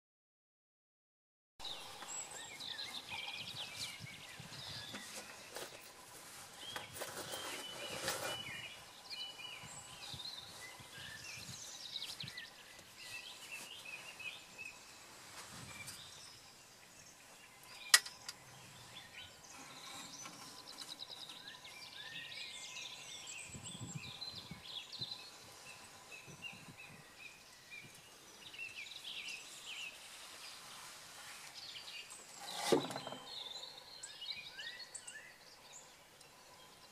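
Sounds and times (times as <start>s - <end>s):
songbirds singing and calling: 1.6s - 36.9s.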